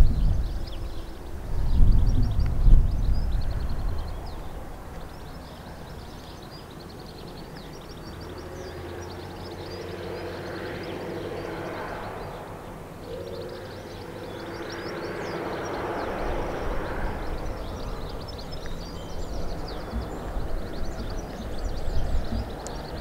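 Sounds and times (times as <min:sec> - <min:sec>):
distant trains rumbling: 0:00.0 - 0:23.0
small birds chirping: 0:00.0 - 0:23.0.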